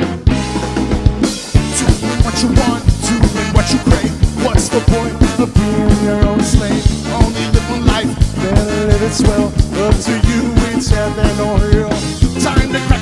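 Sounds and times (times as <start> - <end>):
horn section: 0.0 - 13.0
ska band playing live: 0.0 - 13.0.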